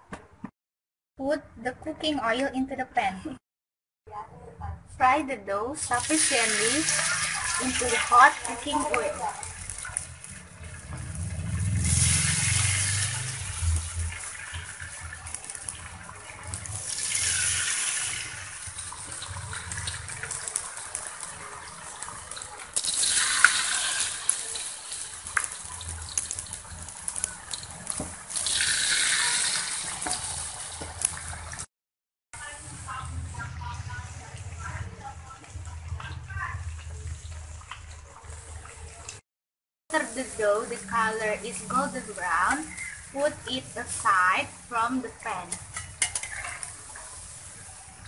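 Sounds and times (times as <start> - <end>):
batter sizzling in hot oil: 5.6 - 31.7, 32.4 - 39.2, 39.9 - 48.0.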